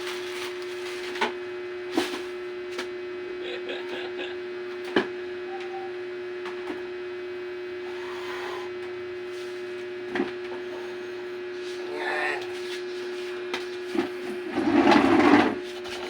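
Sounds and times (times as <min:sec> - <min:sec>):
high-pitched hum: 0:00.0 - 0:16.0.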